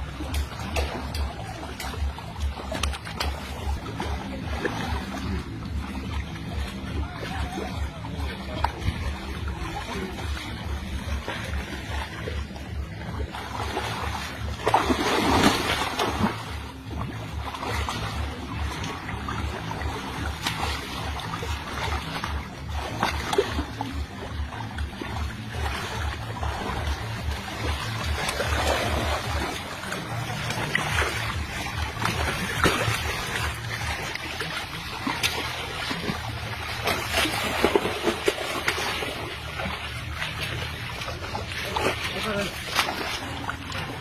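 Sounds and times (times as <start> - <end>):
low pulsing throb: 0.0 - 44.0
water splashing in a ditch: 0.0 - 44.0.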